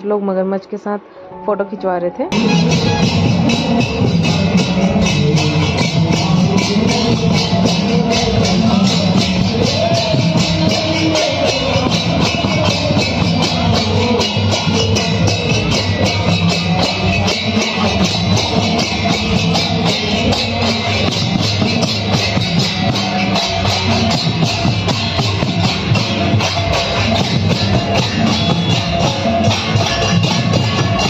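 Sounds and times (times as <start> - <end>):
barrel drums beating: 2.3 - 31.0
hand cymbals clashing: 2.3 - 31.0.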